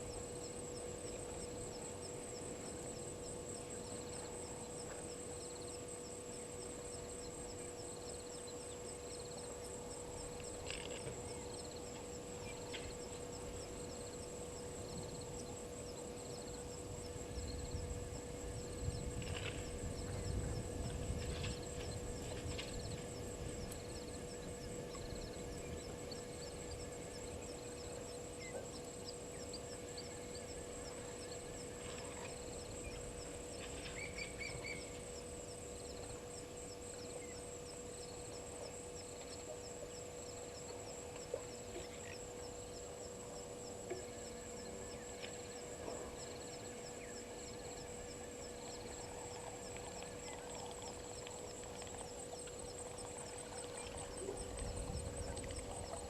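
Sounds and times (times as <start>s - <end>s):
insect trills: 0.0s - 56.0s
steady low hum: 0.0s - 56.0s.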